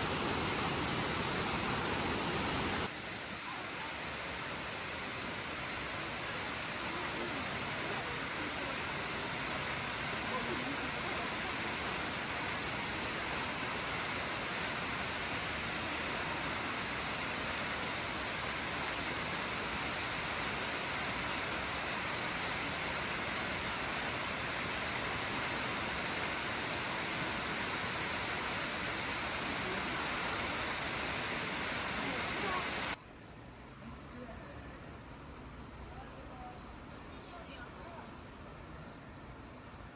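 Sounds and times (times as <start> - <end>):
waterfall pouring: 0.0 - 33.0.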